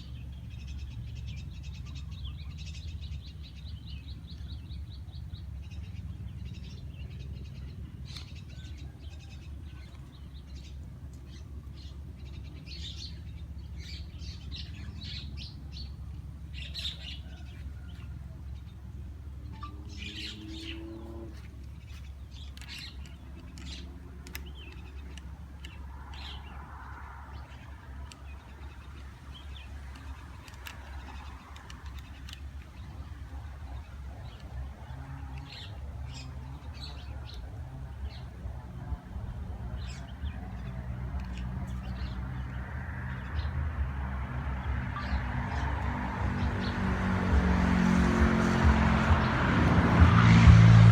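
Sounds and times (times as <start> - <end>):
small birds chirping: 0.0 - 50.8.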